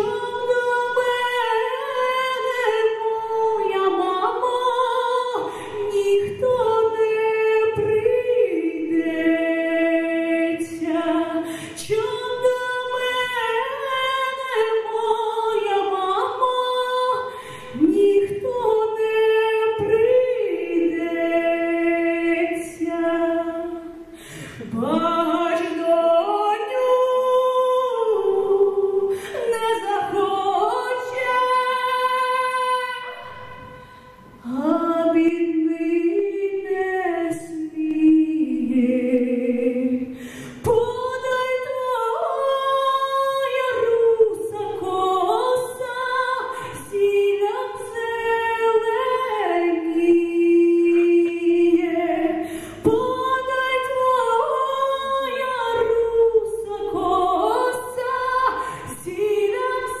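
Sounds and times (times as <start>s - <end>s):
woman singing folk song: 0.0s - 60.0s.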